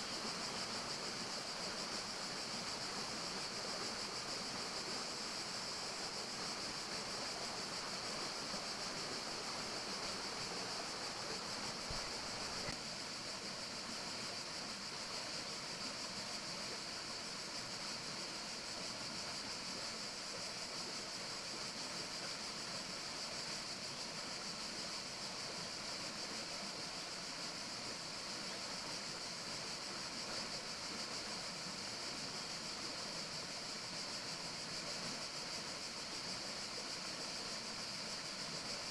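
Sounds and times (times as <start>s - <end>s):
forest ambience rushing hiss: 0.0s - 38.9s.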